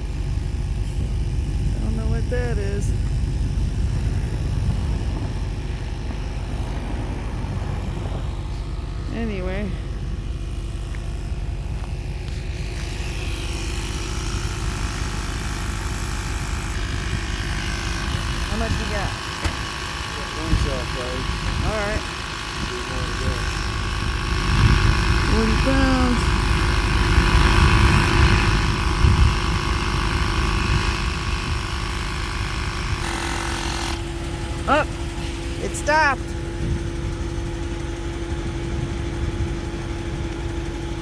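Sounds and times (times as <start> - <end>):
air compressor pump chugging: 0.0 - 41.0
steady low rumble: 0.0 - 41.0.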